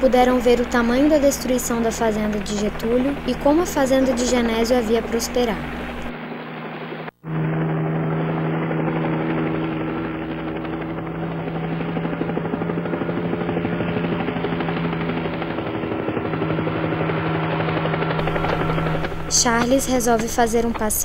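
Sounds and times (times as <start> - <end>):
helicopter rotor chop: 0.0 - 21.0.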